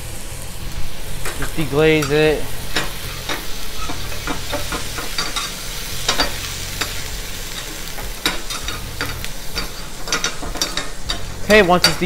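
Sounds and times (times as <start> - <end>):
broth sizzling in a frying pan: 0.0 - 12.0
metal spatula scraping a pan: 1.2 - 12.0.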